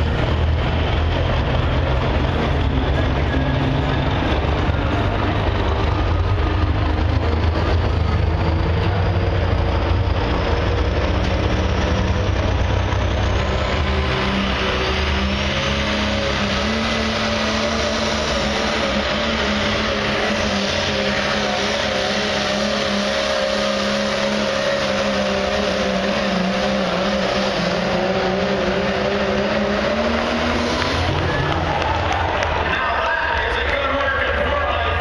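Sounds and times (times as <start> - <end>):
diesel truck engine under load: 0.0 - 35.0.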